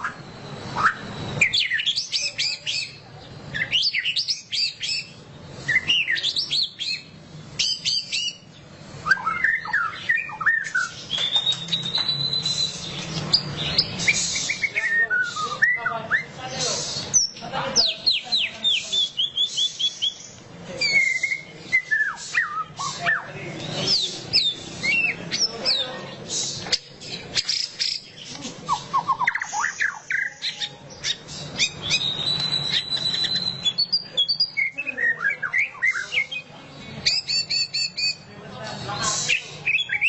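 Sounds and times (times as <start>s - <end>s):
bird singing chattering song: 0.0s - 40.0s.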